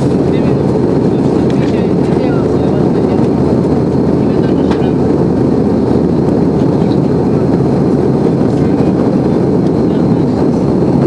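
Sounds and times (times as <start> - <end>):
jet engines and airflow in cabin: 0.0 - 11.0.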